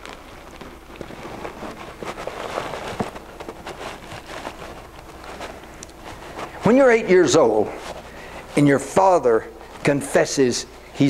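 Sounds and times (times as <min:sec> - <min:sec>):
footsteps on floor: 0:00.0 - 0:09.0
clothing rustling: 0:00.0 - 0:11.0
low room hum: 0:00.0 - 0:11.0.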